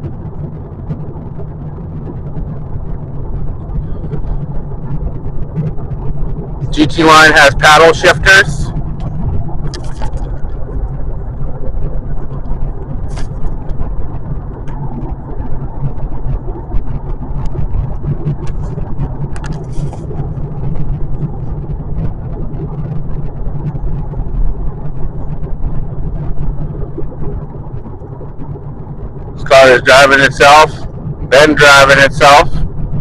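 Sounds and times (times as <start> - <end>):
car road noise from cabin: 0.0 - 33.0.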